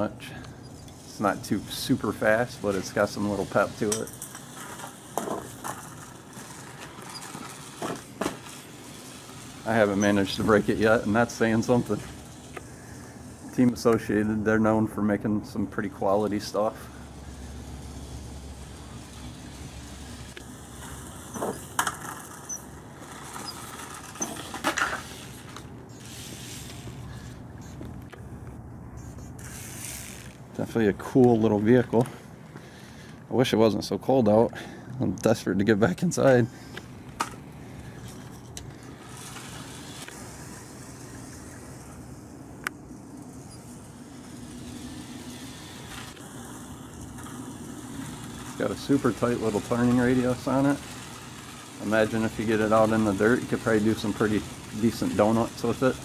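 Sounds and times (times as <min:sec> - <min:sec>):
low background noise: 0:00.0 - 0:56.0
rc truck driving on concrete: 0:00.0 - 0:56.0.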